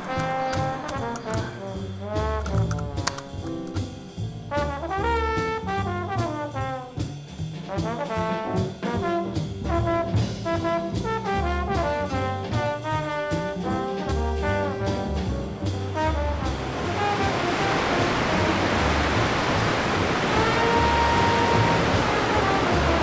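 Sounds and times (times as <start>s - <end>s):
trombones and trumpets: 4.5s - 23.0s.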